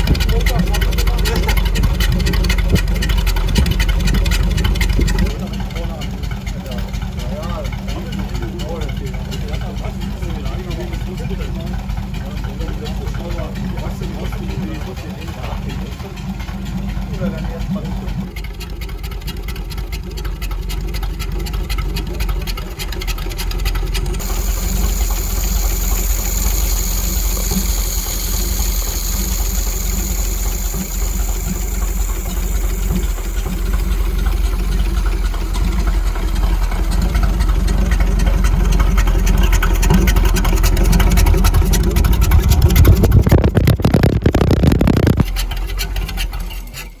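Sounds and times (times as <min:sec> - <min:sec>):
petrol engine running: 0:00.0 - 0:47.0.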